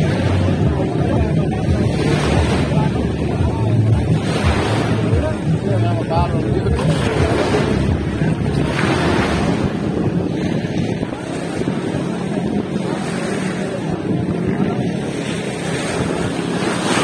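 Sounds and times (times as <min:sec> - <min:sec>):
boat engine drone: 0:00.0 - 0:17.0
choppy seawater: 0:00.0 - 0:17.0
wind buffeting microphone: 0:00.0 - 0:17.0.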